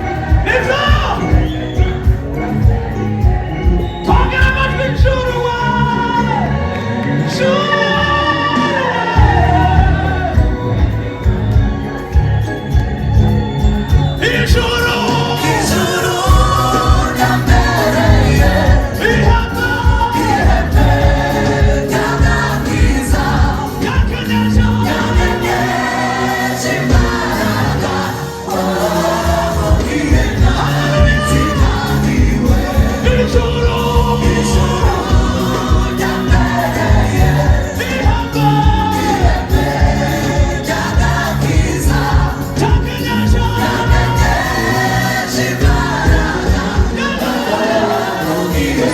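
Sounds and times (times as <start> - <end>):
steady drum beat: 0.0 - 5.6, 9.1 - 48.9
band accompaniment: 0.0 - 48.9
gospel choir singing: 0.0 - 48.9.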